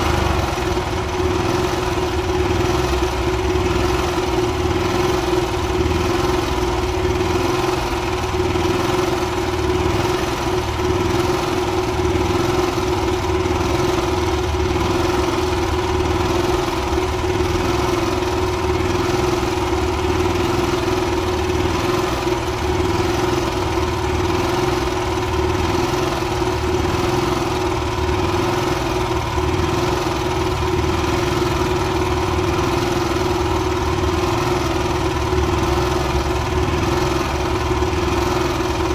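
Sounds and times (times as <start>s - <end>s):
generator engine humming: 0.0s - 38.9s.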